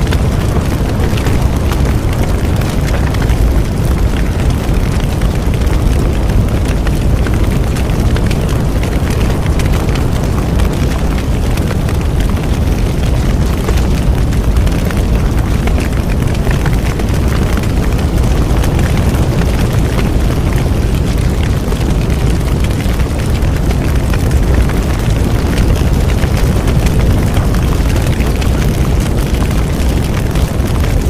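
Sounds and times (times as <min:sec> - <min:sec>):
bonfire roaring and crackling: 0:00.0 - 0:31.0.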